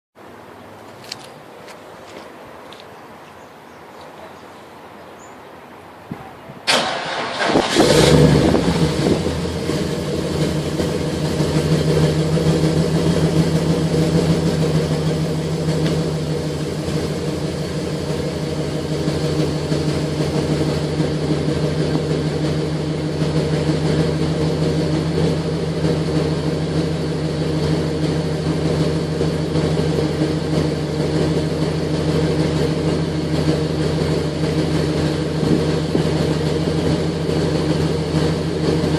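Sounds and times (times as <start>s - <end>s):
car engine idling: 6.7s - 38.9s
car engine revving: 6.7s - 38.9s.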